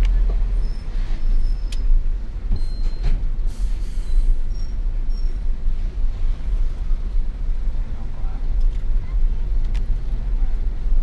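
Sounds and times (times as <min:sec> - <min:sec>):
diesel truck engine rumble: 0:00.0 - 0:11.0.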